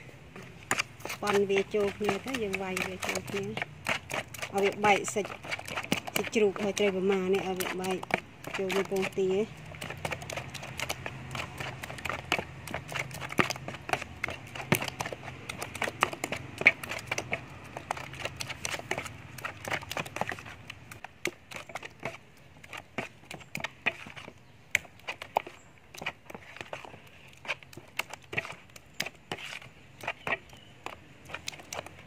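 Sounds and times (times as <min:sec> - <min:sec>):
spoon stirring in plastic bowl: 0:00.3 - 0:32.0.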